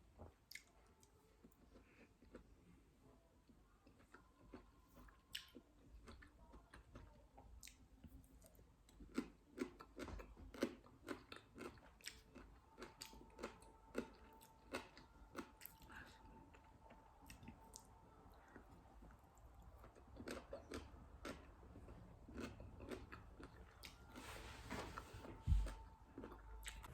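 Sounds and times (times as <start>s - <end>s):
chewing crisp mango: 0.4s - 2.6s, 3.5s - 24.3s, 24.9s - 26.9s.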